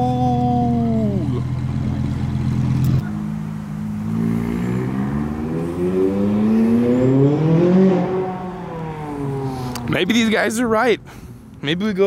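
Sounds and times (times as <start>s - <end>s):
car engine accelerating: 0.0s - 10.8s.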